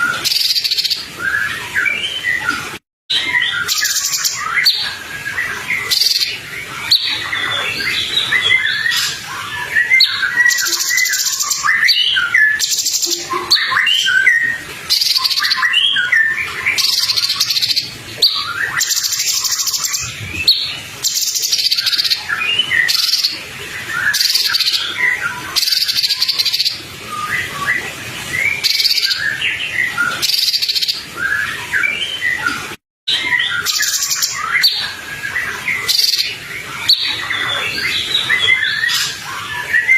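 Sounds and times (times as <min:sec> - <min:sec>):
songbird chirps and twitters: 0:00.0 - 0:39.9.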